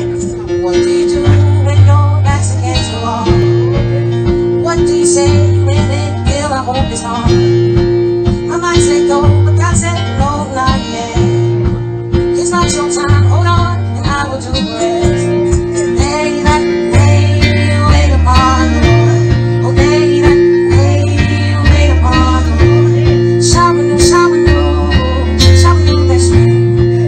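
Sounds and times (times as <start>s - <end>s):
deep held bass notes: 0.0s - 27.0s
guitar: 0.0s - 27.0s
person singing: 0.0s - 27.0s
steady beat: 0.0s - 27.0s.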